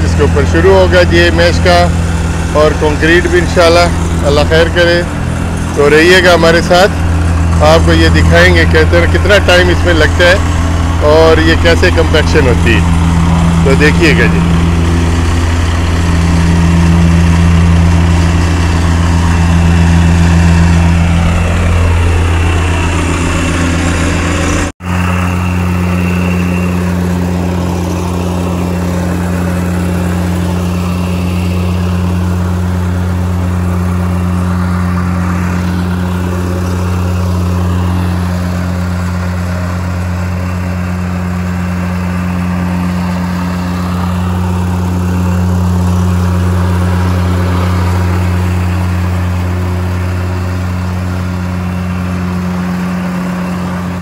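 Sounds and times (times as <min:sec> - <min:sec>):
plate compactor engine drone: 0:00.0 - 0:54.0.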